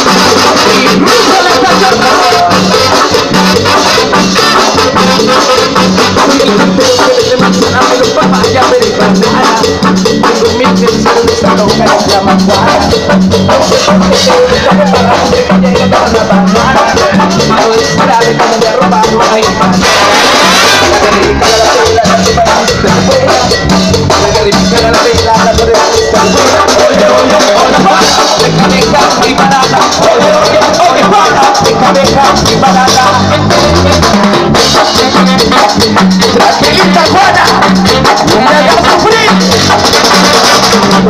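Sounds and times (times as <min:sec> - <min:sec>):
brass band playing latin dance music: 0:00.0 - 0:41.0.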